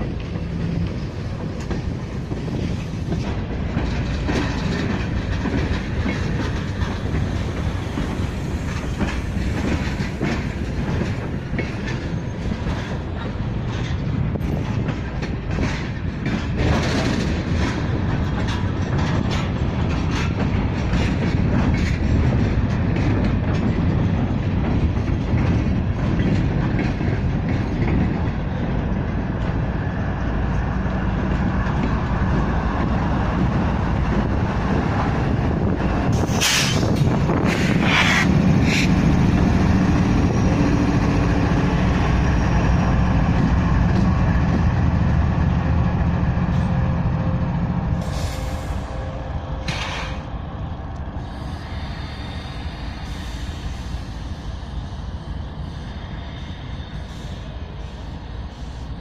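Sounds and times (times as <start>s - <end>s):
diesel locomotive engines: 0.0s - 59.0s
train wheels clicking over rail joints: 0.0s - 59.0s.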